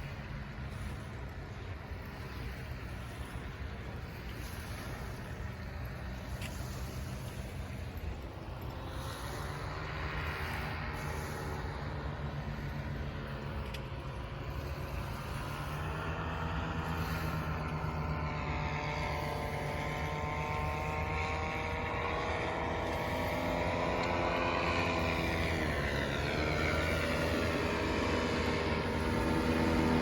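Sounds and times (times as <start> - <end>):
engine running: 0.0 - 30.0
low hum: 0.0 - 30.0.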